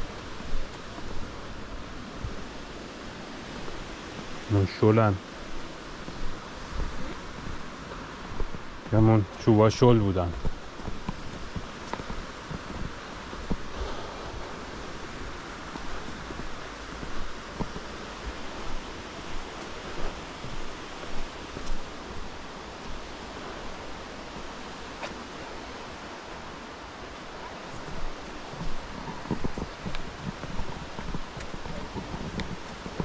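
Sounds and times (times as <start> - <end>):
footsteps on forest trail: 0.0 - 33.0
steady rushing hiss: 0.0 - 33.0.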